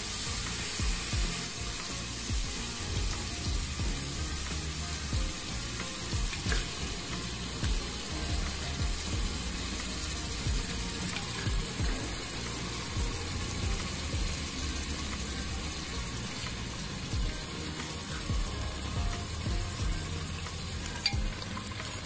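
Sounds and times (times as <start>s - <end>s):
spices sizzling in a pot: 0.0s - 22.0s.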